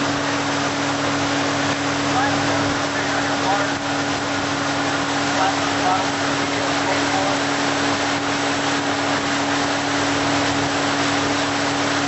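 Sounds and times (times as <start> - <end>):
boat engine droning: 0.0 - 12.0
water rushing: 0.0 - 12.0.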